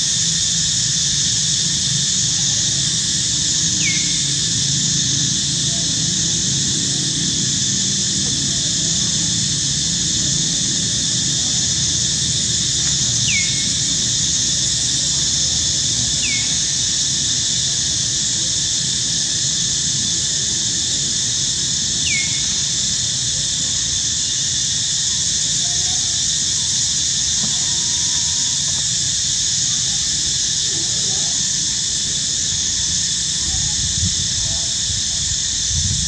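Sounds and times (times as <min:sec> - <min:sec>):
insect chorus: 0:00.0 - 0:36.0.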